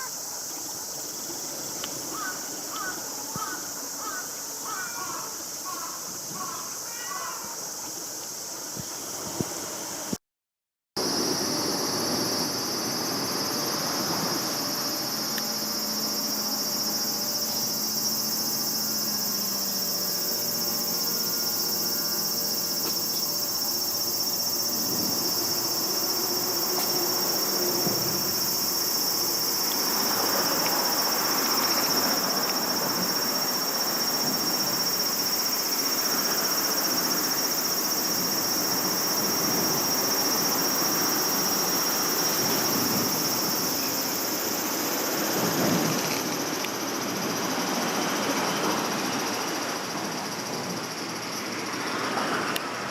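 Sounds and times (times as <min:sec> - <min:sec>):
insects droning: 0:00.0 - 0:10.2, 0:11.0 - 0:52.9.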